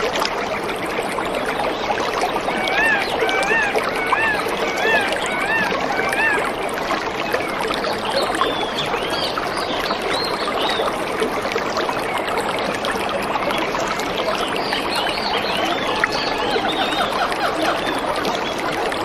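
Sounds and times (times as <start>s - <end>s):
stream running water: 0.0s - 19.0s.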